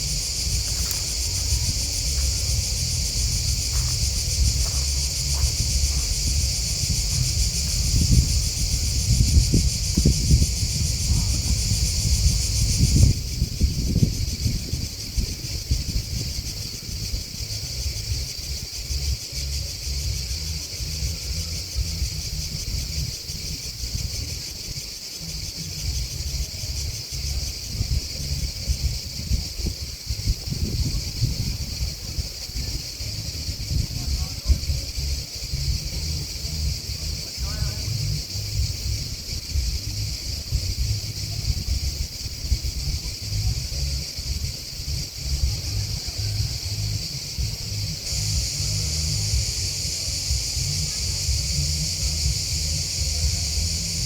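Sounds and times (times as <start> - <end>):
crickets chirring: 0.0 - 54.0
low gusty rumble: 0.0 - 54.0.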